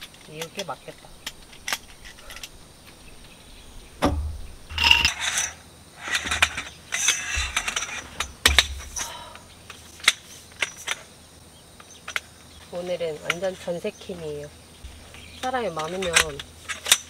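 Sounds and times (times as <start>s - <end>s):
metal poles clinking and scraping: 0.0s - 3.4s, 4.0s - 11.1s, 11.8s - 17.0s.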